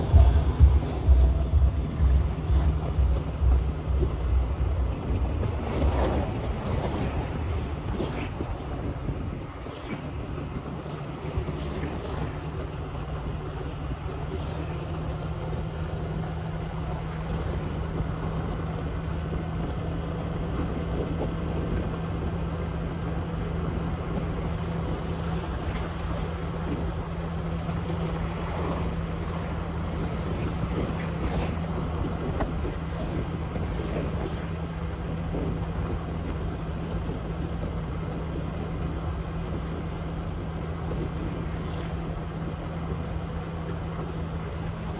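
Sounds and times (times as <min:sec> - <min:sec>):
motorbike engine cruising: 0:00.0 - 0:44.9
road noise: 0:00.0 - 0:44.9
wind rushing over microphone: 0:00.0 - 0:44.9.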